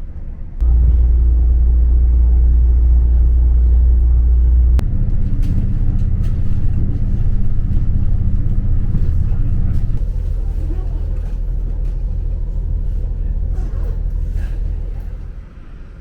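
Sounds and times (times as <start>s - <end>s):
rattly train running: 0.0s - 16.0s
train rumbling: 0.0s - 16.0s.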